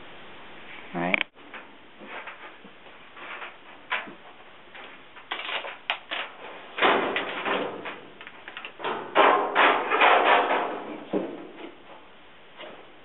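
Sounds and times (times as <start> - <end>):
drum scraping and rattling: 1.4 - 12.1
clicks and knocks: 1.5 - 12.8.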